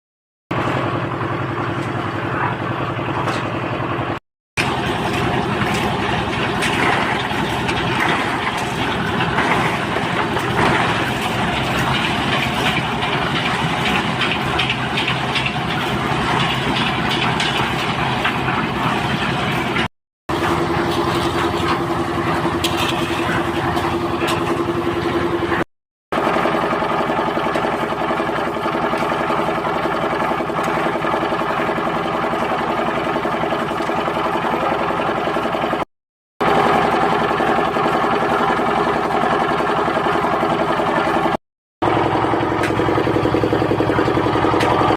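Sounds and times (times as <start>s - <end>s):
machinery engine running: 0.5s - 44.9s.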